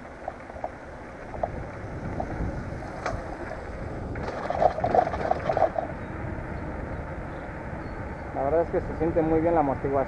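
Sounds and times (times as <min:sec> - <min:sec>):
wind on microphone: 0:00.0 - 0:09.1
bike rolling on pavement: 0:00.0 - 0:10.0.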